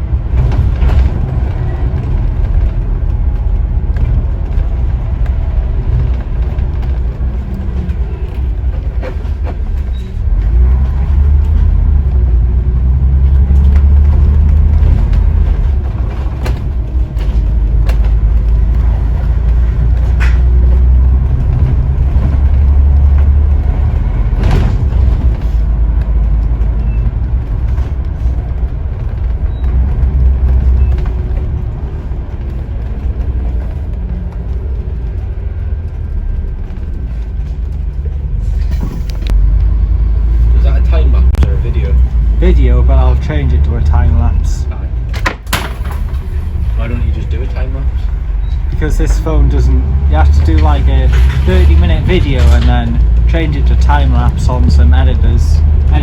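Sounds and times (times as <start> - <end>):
body knocks and rattles: 0.0 - 56.0
bus engine and road rumble: 0.0 - 56.0.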